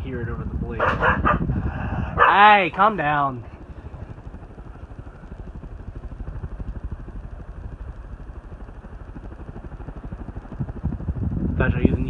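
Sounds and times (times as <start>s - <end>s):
ceiling fan air whoosh: 0.0s - 12.0s
low motor hum: 0.0s - 12.0s.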